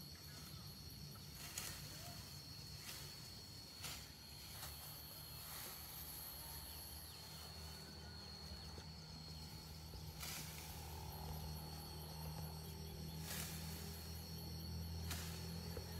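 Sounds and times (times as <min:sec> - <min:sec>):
steady high whine: 0:00.0 - 0:15.9
leaves rustling: 0:00.3 - 0:15.9.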